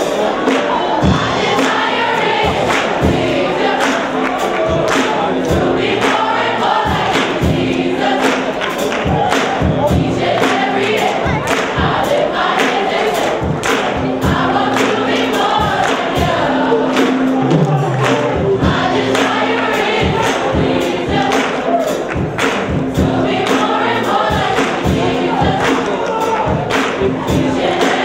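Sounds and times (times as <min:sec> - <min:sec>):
choir singing: 0:00.0 - 0:28.0
instrumental backing with beat: 0:00.0 - 0:28.0.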